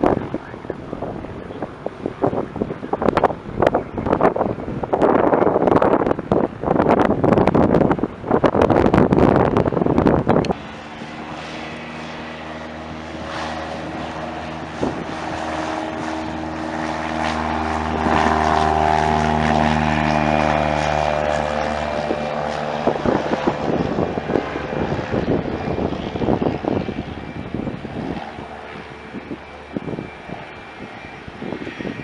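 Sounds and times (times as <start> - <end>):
propeller airplane engine passing: 0.0 - 32.0
wind buffeting microphone: 0.0 - 32.0.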